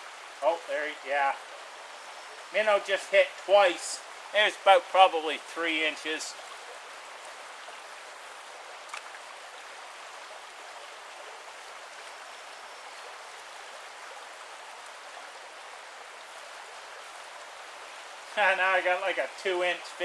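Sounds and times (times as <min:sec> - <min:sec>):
brook running: 0:00.0 - 0:20.0.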